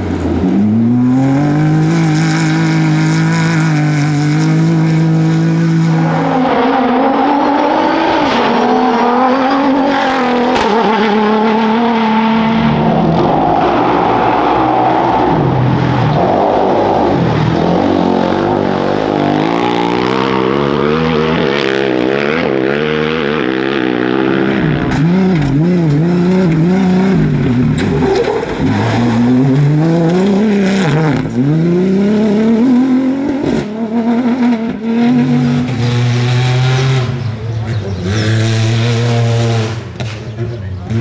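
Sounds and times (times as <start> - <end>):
motorcycle engine revving: 0.0 - 41.0
vehicle engines revving: 0.0 - 41.0.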